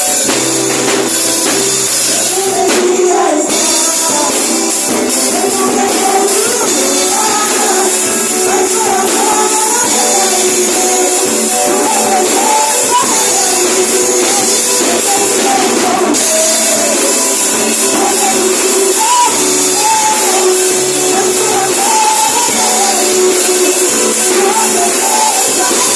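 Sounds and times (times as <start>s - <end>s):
person singing: 0.0s - 25.9s
praise band playing: 0.0s - 25.9s.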